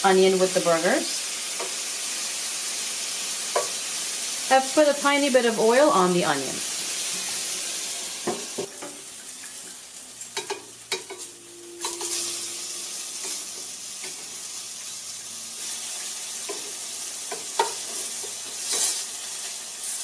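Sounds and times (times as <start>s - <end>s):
food sizzling on a grill: 0.0s - 20.0s.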